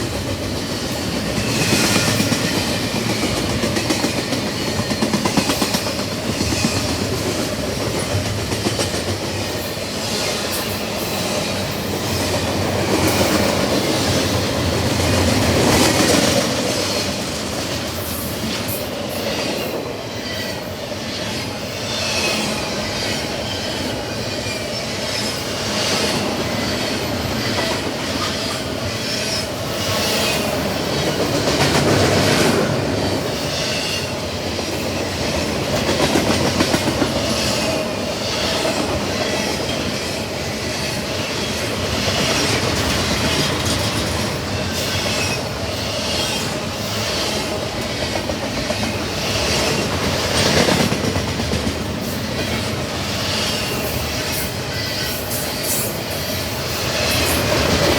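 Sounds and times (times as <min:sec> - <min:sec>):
freight train rolling past: 0:00.0 - 0:57.9.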